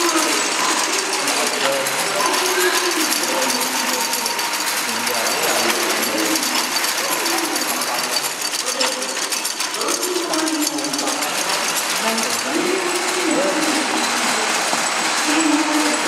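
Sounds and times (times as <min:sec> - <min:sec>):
braiding machine clattering: 0:00.0 - 0:16.0.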